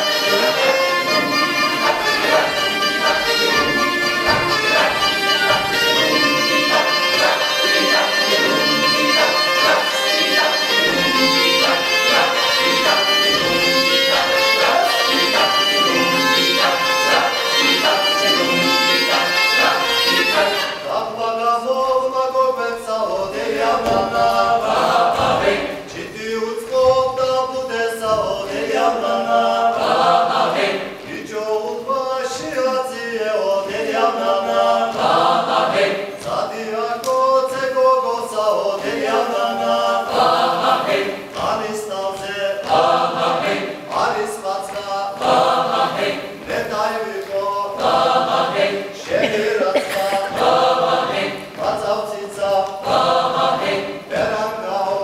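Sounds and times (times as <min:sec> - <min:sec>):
mixed choir singing a cappella: 0:00.0 - 0:55.0.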